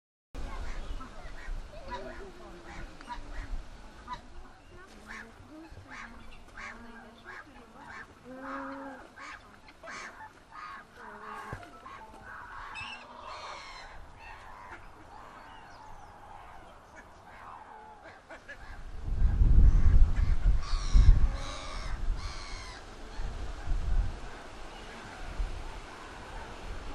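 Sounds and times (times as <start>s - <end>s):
ducks quacking: 0.4s - 26.7s
geese honking: 0.5s - 26.9s.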